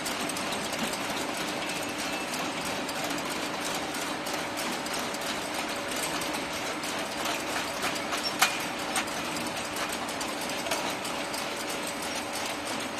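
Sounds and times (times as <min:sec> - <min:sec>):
chain conveyor humming: 0:00.0 - 0:12.9.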